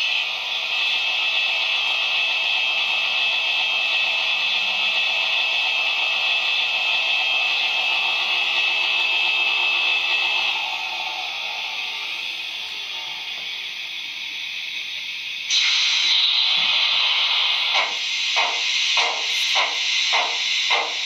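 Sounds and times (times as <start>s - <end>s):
model locomotive steam hiss: 0.0s - 21.0s.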